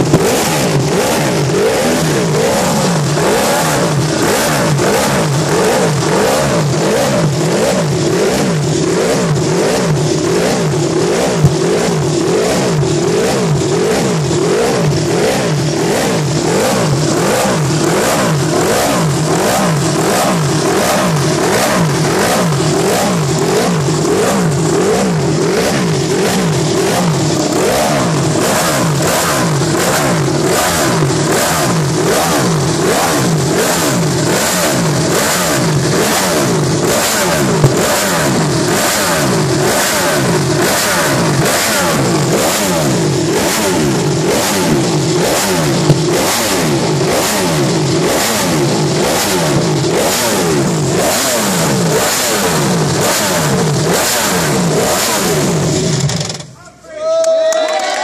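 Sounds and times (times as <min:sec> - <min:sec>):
motorcycle engine revving: 0:00.0 - 0:56.6.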